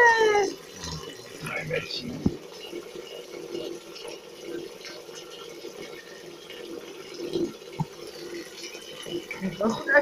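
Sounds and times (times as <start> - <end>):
bathwater splashing: 0.0 - 10.0.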